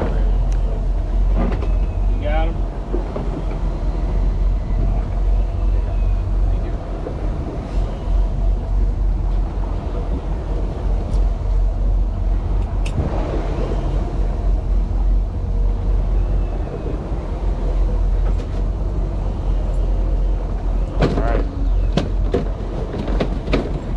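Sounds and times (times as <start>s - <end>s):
boat engine rumbling: 0.0s - 23.9s
water noise: 0.0s - 23.9s
wind: 0.0s - 23.9s.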